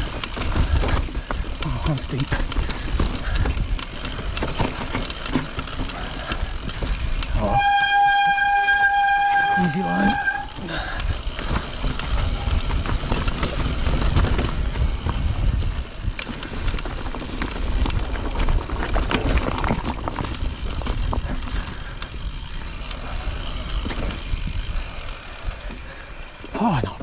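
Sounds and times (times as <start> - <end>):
bike clicks and knocks: 0.0 - 26.6
bike tyres crunching over stones: 0.0 - 26.9.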